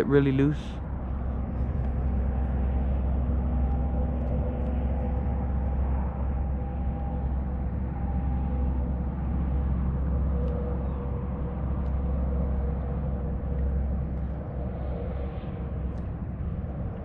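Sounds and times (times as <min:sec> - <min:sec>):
faint steady hum: 0:00.0 - 0:17.0
low rumble: 0:00.0 - 0:17.0.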